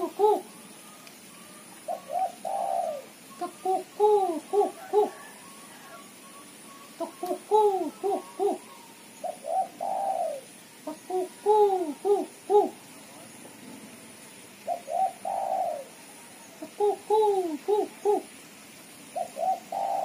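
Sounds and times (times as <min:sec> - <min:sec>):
dove cooing: 0:00.0 - 0:13.8, 0:14.6 - 0:18.4, 0:19.1 - 0:20.0.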